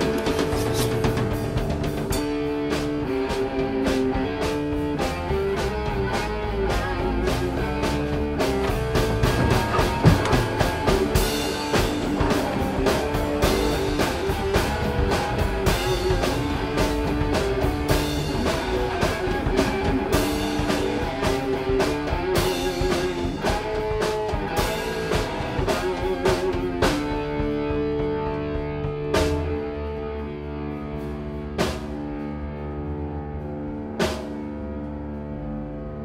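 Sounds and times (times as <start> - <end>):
drum kit beat: 0.0 - 29.8
electric guitar: 0.0 - 36.0.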